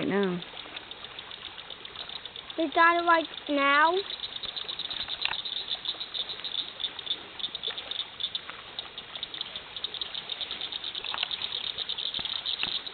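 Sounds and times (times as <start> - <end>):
faint clicks: 0.0 - 12.9
insects chirping: 0.0 - 12.9.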